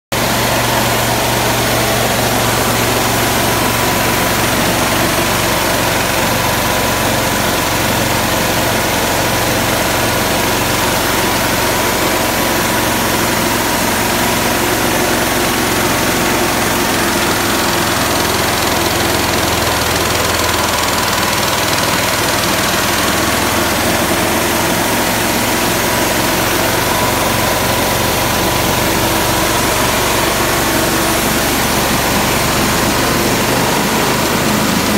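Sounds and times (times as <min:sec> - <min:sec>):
engine-driven machine running: 0:00.1 - 0:34.9.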